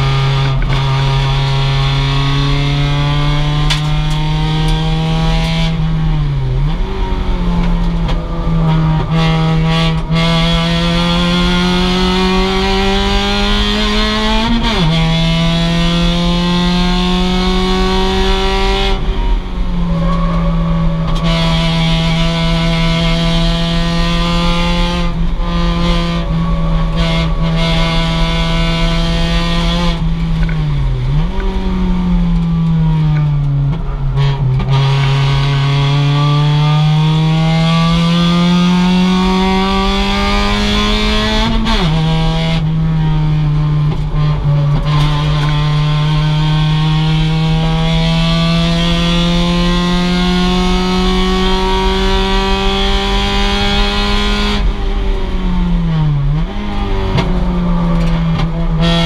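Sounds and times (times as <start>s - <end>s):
car engine revving at race pace: 0.0s - 59.0s.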